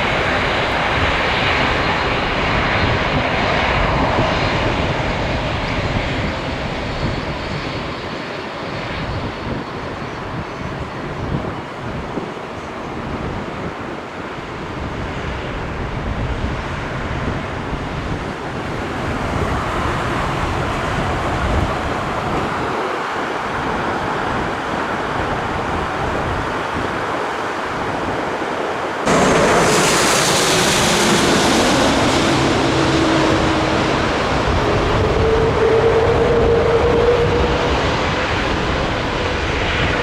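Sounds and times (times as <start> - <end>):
jet engine roar: 0.0 - 40.0
jet engine whine: 0.0 - 40.0
wind on microphone: 0.0 - 40.0.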